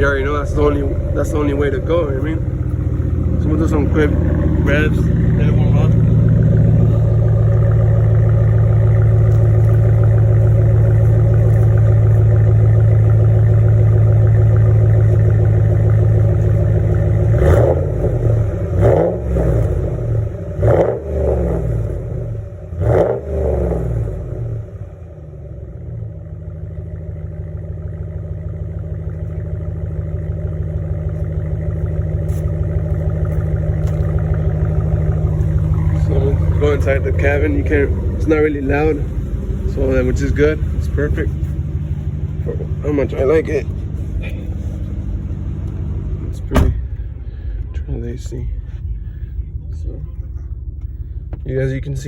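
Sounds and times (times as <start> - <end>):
vee eight engine idling and revving: 0.0 - 52.0.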